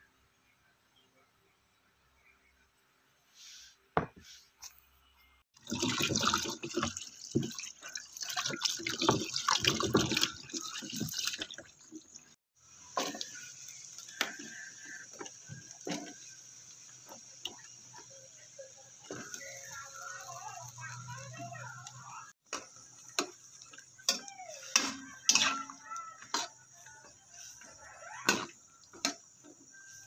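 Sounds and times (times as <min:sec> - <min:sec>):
hot water hissing with pops: 0:05.6 - 0:30.0.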